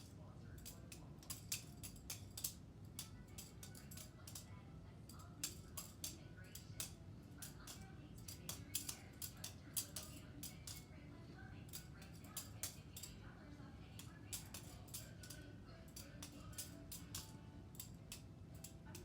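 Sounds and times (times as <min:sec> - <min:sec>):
butterfly knife metallic clicks: 0:00.0 - 0:04.5, 0:05.1 - 0:10.9, 0:11.7 - 0:13.2, 0:14.0 - 0:19.0.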